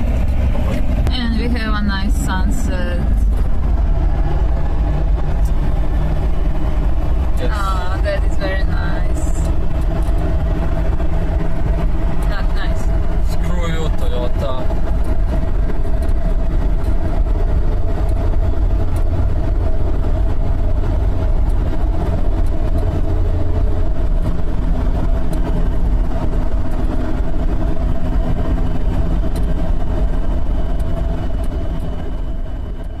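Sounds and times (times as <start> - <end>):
car engine and road rumble: 0.0 - 33.0
constant drone: 0.0 - 33.0.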